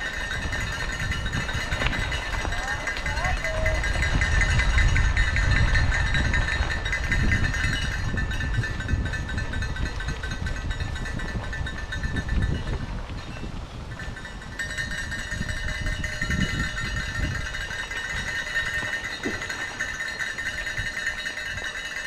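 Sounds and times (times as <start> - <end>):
high rattling ring: 0.0 - 12.9, 14.0 - 22.0
mountain bike riding noise: 0.0 - 22.0
wind on the microphone: 0.0 - 22.0.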